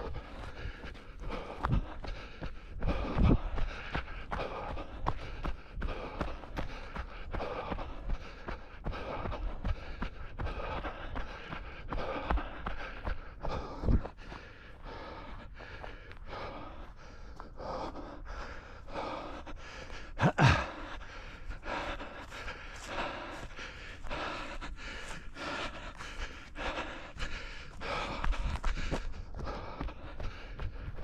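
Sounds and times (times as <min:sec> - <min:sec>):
runner panting: 0:00.0 - 0:31.0
voiced gasp: 0:00.0 - 0:31.0.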